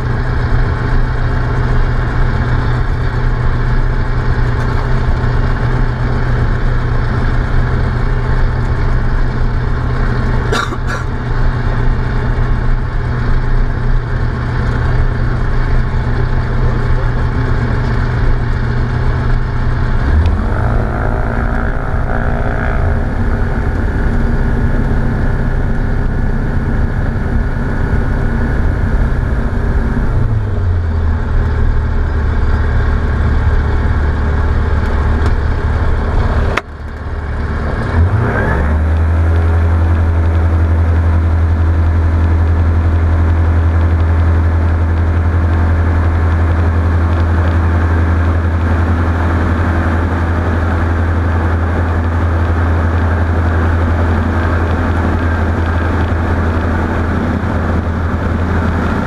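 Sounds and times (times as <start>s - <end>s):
aircraft piston engine running: 0.0s - 38.1s, 38.8s - 59.0s.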